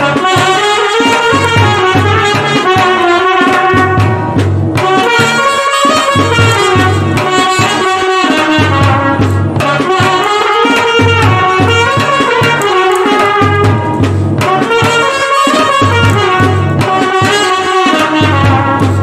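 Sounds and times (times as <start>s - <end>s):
bass drum beat: 0.0s - 19.0s
snare drum strokes: 0.0s - 19.0s
trumpet melody: 0.0s - 19.0s.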